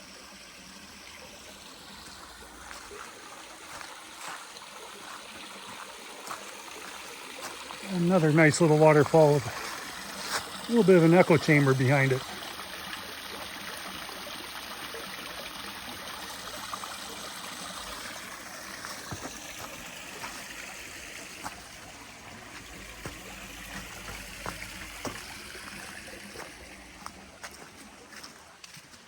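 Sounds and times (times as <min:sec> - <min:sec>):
waterfall splashing over rock: 0:01.5 - 0:28.3.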